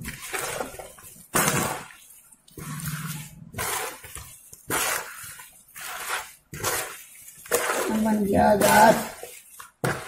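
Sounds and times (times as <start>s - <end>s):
hands squelching mixing food: 0.0s - 10.0s.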